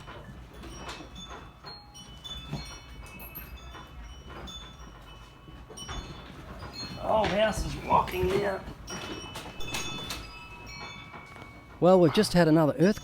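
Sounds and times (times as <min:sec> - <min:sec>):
house creaking: 0:00.0 - 0:13.0
tinkling of swinging objects: 0:00.0 - 0:13.0.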